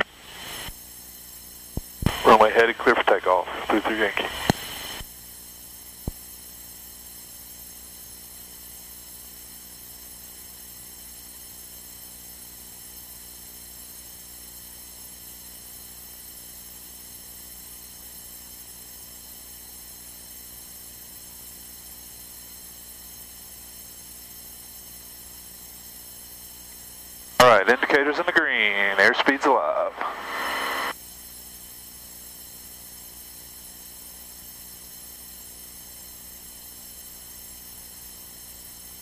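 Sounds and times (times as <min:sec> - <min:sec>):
electrical hum and hiss: 0:00.0 - 0:25.4, 0:26.2 - 0:39.0.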